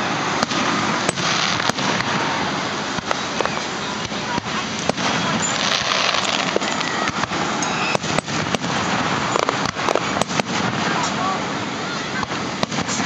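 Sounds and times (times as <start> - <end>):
firework shells bursting: 0.0 - 11.5, 12.2 - 13.0
fireworks crackling: 0.0 - 13.0.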